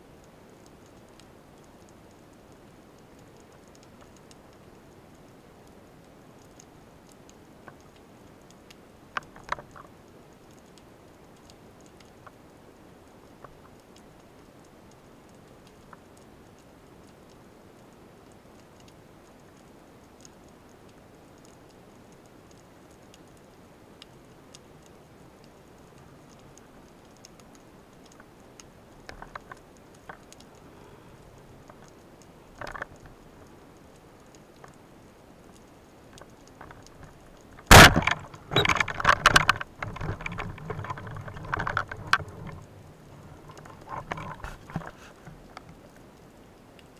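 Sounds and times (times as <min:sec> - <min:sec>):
faint ticks and clicks: 0:00.0 - 0:46.9.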